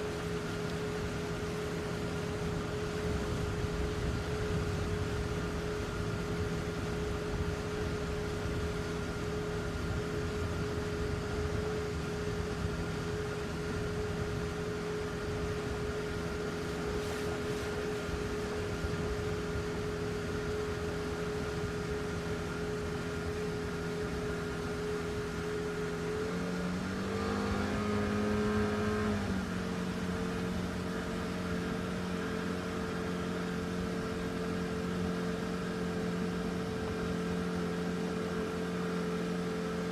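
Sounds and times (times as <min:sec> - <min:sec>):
boat engine idling and revving: 0:00.0 - 0:39.9.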